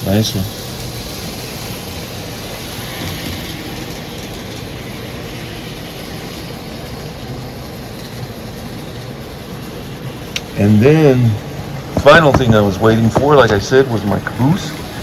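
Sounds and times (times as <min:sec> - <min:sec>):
model train motor whirring: 0:00.0 - 0:15.0
room hum: 0:00.0 - 0:15.0
wheels rolling on rails: 0:00.0 - 0:15.0.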